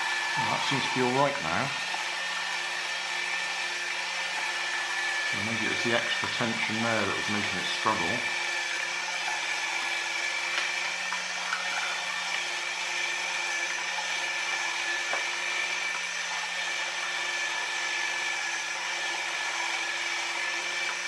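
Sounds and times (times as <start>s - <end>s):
small electric motor whining: 0.0s - 21.0s.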